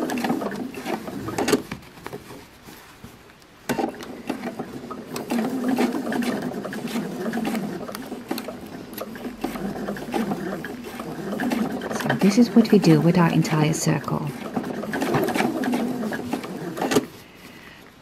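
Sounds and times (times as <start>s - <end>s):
sewing machine stitching: 0.0s - 1.8s, 3.7s - 17.2s.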